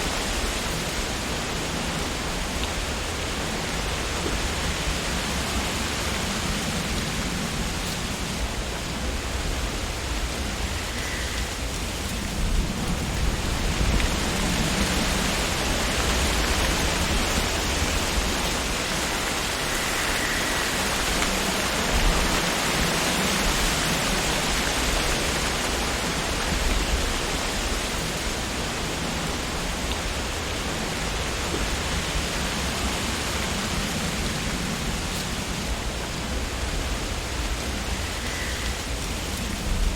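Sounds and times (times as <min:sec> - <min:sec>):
wind rustling tree leaves: 0:00.0 - 0:39.9.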